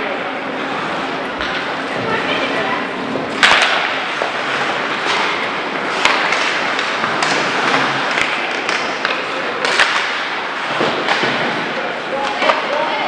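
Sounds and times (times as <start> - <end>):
hockey sticks and puck clacking: 0.8 - 13.0.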